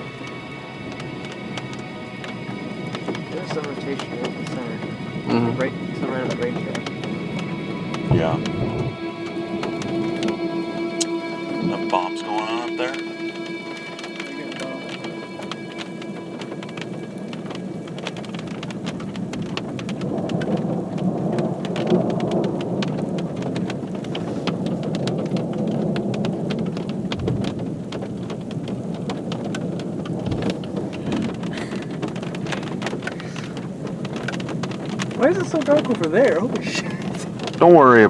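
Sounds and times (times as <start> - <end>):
low rumbles: 0.0 - 38.0
rain drumming on car roof: 0.0 - 38.0.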